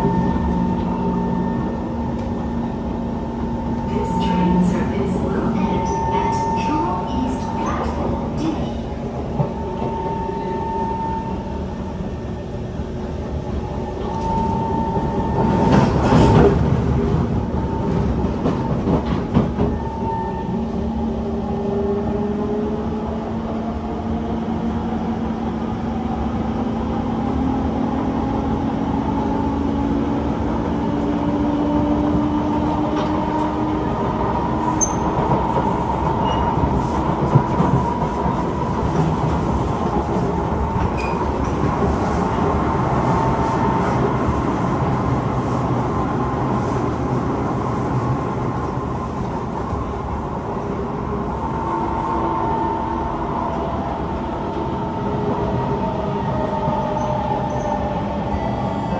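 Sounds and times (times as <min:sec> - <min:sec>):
loud rail noise: 0:00.0 - 0:58.9
train wheels rumbling on track: 0:00.0 - 0:58.9.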